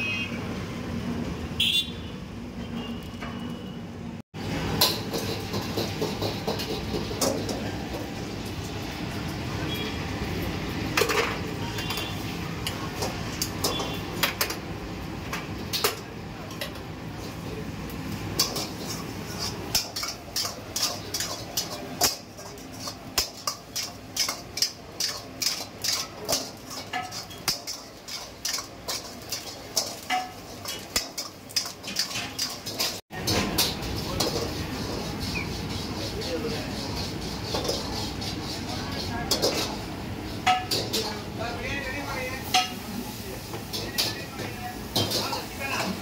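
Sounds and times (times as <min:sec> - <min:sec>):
metal utensils clanking against wok: 0:04.4 - 0:46.0.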